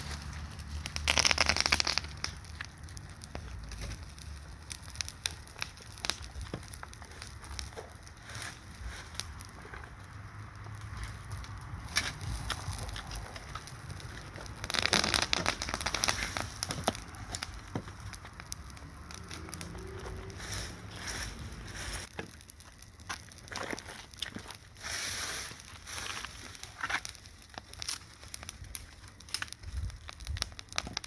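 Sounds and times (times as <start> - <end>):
bonfire crackling and popping: 0.0 - 31.0.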